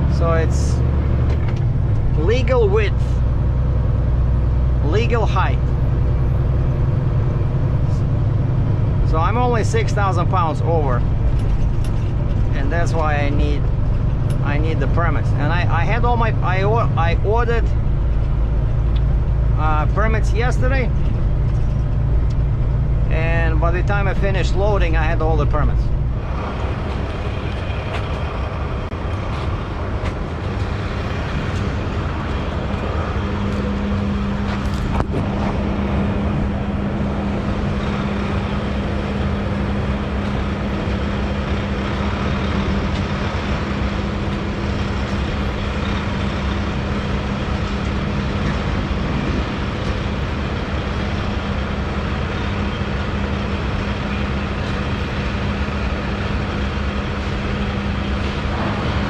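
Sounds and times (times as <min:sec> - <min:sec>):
diesel engine and road noise: 0:00.0 - 0:59.0
steady hum: 0:00.0 - 0:59.0.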